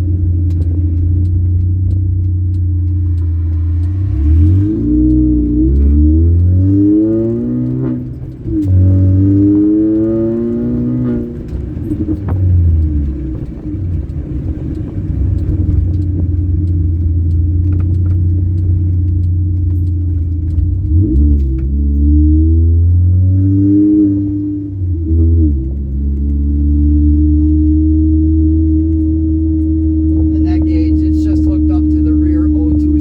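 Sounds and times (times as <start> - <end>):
car engine accelerating through gears: 0.0 - 33.0.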